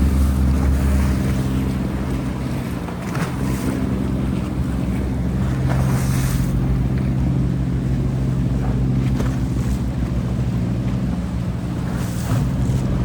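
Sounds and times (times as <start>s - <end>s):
boat engine humming: 0.0s - 13.0s
water rushing past: 0.0s - 13.0s
wind: 0.0s - 13.0s.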